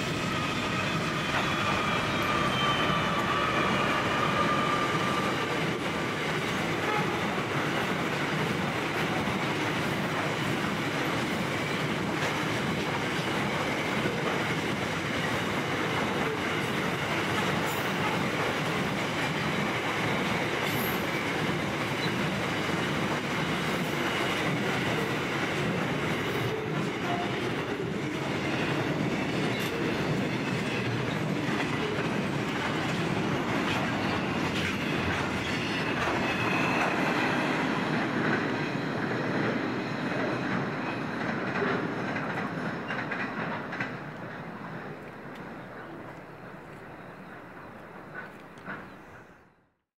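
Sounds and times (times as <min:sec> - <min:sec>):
wheels ringing on rail: 0:00.0 - 0:09.4, 0:10.0 - 0:45.0
freight train wheels rumbling: 0:00.0 - 0:49.6.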